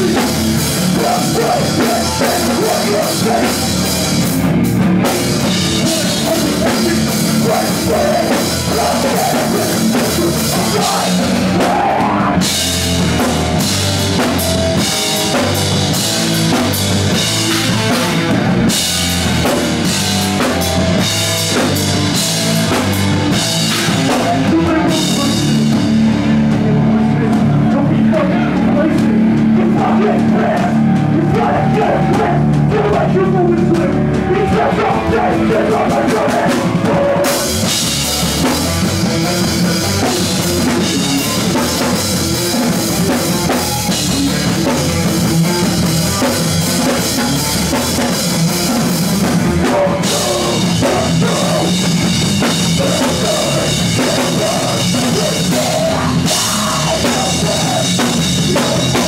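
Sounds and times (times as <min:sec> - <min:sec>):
drum kit: 0:00.0 - 0:59.0
live rock band playing: 0:00.0 - 0:59.0.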